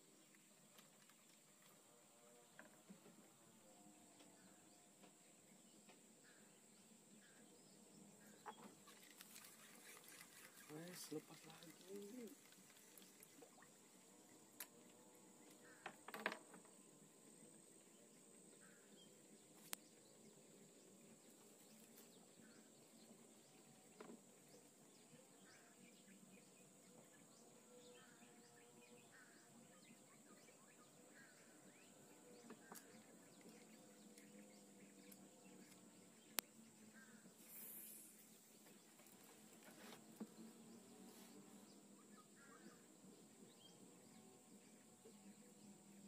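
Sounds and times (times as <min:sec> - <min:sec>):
faint bird chirps: 0:03.5 - 0:46.0.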